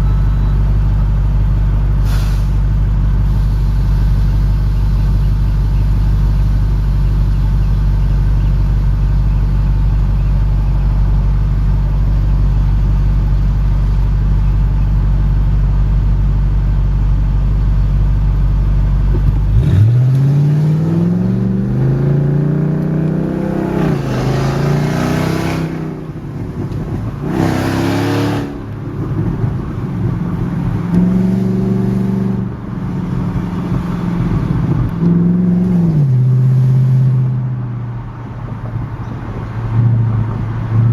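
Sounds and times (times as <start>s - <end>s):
car engine droning and revving: 0.0s - 40.9s.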